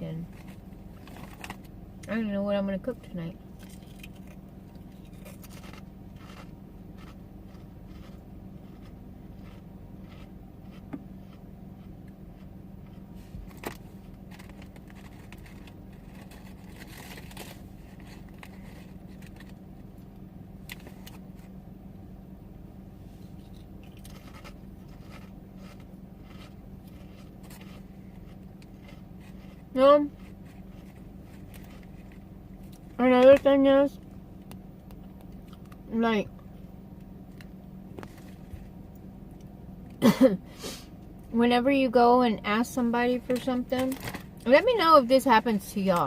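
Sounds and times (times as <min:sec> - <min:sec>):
car interior hum: 0:00.0 - 0:46.0.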